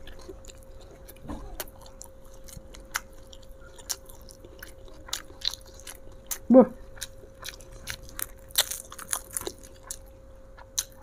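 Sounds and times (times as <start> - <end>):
chewing beans: 0.0 - 11.0.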